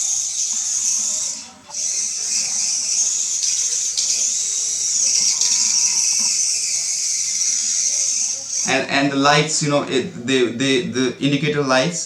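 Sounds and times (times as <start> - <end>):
toy car motor whining: 0.0 - 10.6.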